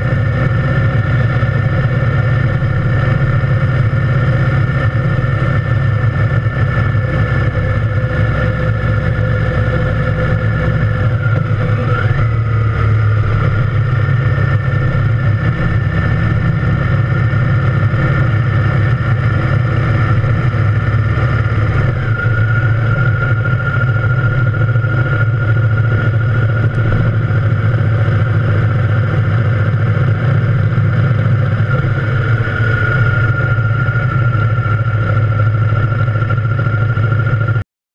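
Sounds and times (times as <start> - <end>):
motorcycle engine running: 0.0 - 37.6.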